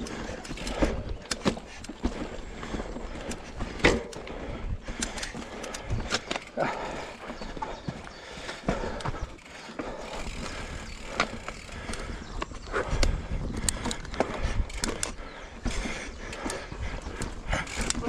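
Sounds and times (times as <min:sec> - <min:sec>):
bike knocks and rattles: 0:00.0 - 0:18.0
bike tyres on rough trail: 0:00.0 - 0:18.0.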